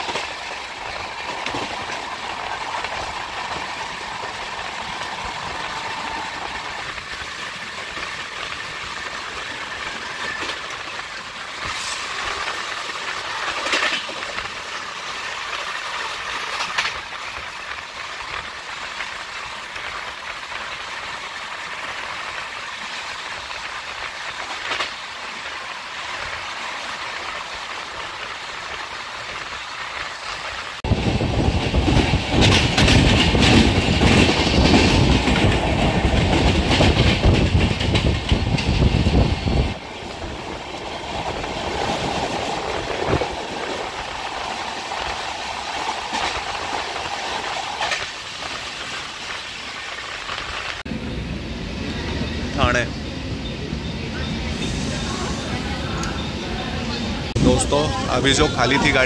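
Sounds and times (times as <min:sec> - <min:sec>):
clickety-clack over rail joints: 0:00.0 - 0:50.9
train wheels rumbling on rails: 0:00.0 - 0:59.0.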